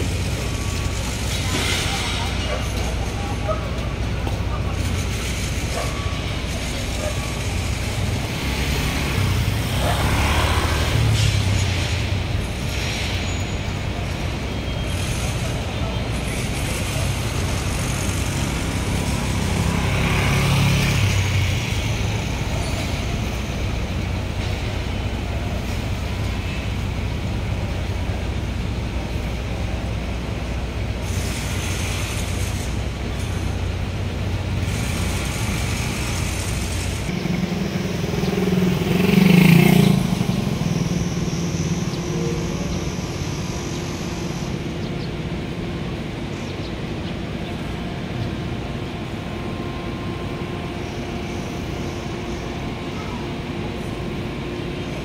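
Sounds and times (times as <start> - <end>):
street traffic: 0.0 - 55.0
vehicle engine passing close: 5.9 - 28.8, 32.8 - 55.0.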